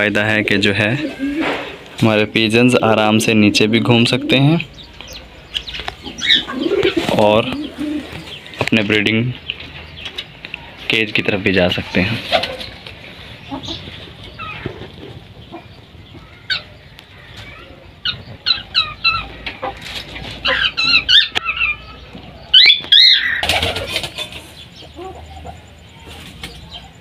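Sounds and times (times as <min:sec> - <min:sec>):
chickens clucking and squawking: 0:00.0 - 0:27.0.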